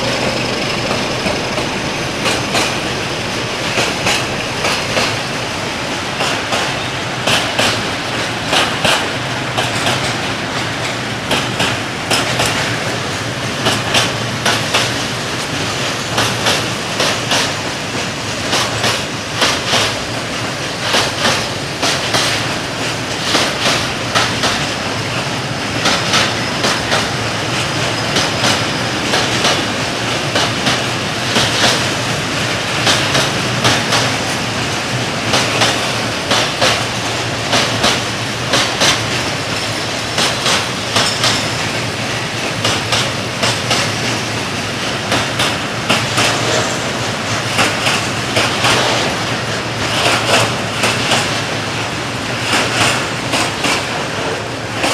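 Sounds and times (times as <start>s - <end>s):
freight train rolling noise: 0.0s - 54.9s.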